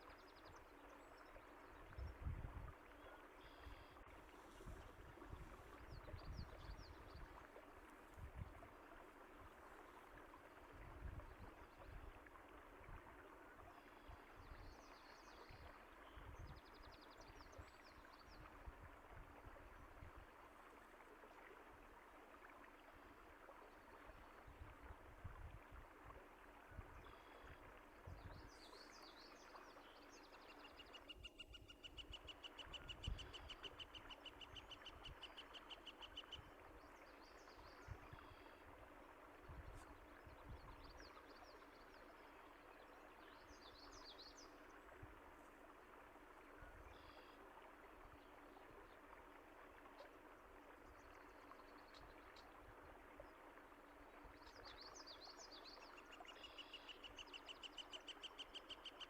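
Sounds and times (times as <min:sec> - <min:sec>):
faint running water: 0:00.0 - 0:59.0.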